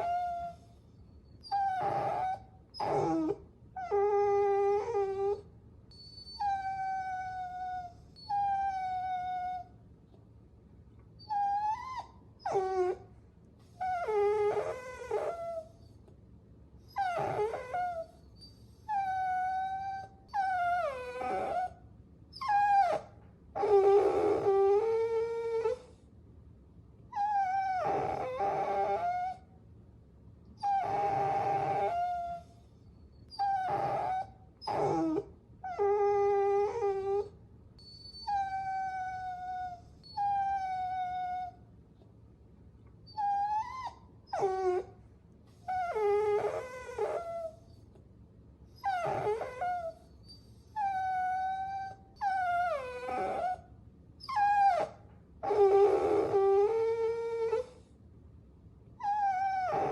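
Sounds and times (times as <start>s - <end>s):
puppies whining: 0.0s - 9.7s, 11.2s - 16.0s, 16.9s - 26.0s, 27.2s - 29.4s, 30.6s - 41.6s, 43.1s - 47.9s, 48.8s - 57.9s, 59.0s - 59.9s.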